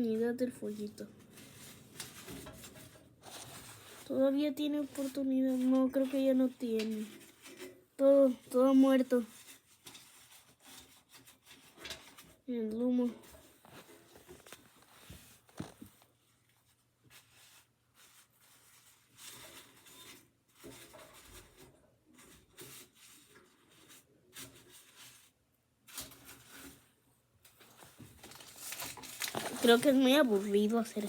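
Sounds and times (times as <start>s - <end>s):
faint rustling and scratching: 0.0s - 31.0s.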